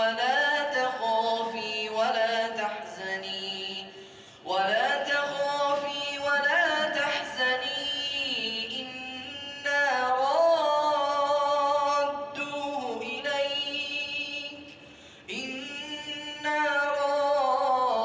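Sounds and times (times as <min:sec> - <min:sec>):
person chanting unaccompanied: 0:00.0 - 0:18.0.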